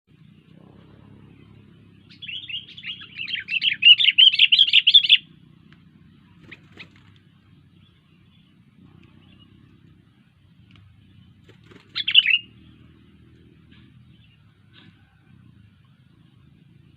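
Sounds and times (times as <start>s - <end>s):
bulbul chirping song: 0.1s - 16.9s
faint low hum: 0.1s - 16.9s.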